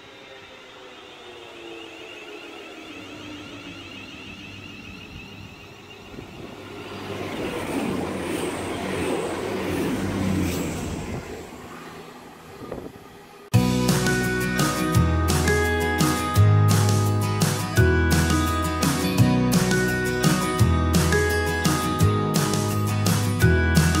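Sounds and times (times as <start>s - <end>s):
electric train motor whine: 0.0s - 23.9s
diesel train engine hum: 0.0s - 24.0s
train wheel noise: 0.0s - 24.0s.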